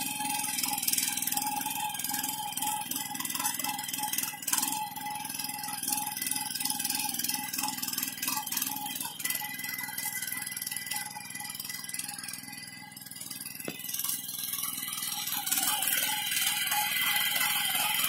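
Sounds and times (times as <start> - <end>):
power weeder engine running: 0.0 - 18.0
tines tilling soil: 0.0 - 18.0.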